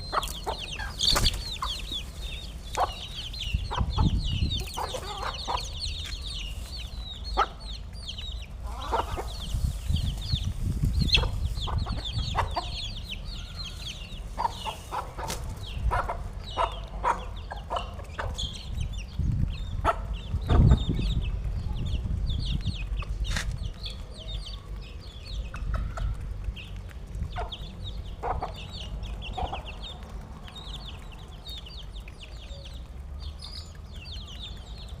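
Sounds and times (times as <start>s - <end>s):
steady low rumble: 0.0s - 32.9s
chickens clucking: 0.0s - 35.0s
high chirping calls: 0.0s - 35.0s.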